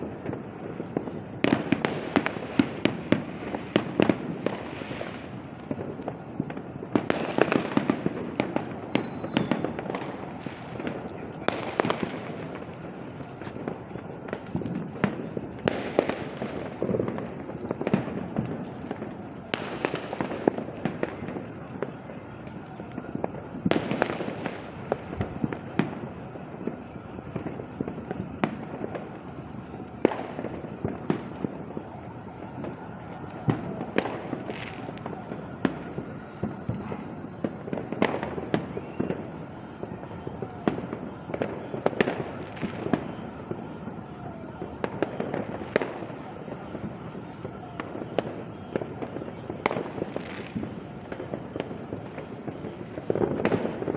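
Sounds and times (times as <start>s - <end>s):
rumble of distant firework bangs: 0.0s - 53.9s.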